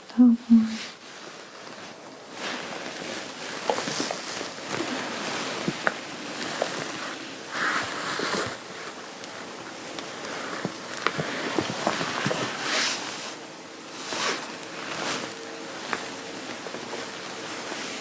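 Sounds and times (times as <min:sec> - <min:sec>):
fabric rustling: 0:00.6 - 0:18.0.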